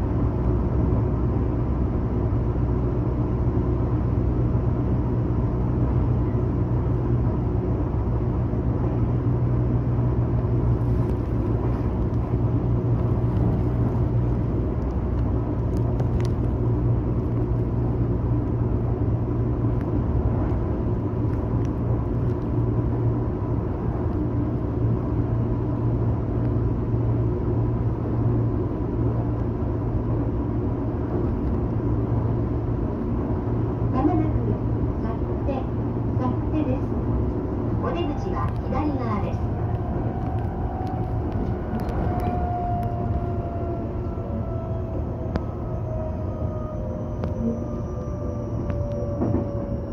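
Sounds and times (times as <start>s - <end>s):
train running rumble: 0.0s - 49.9s.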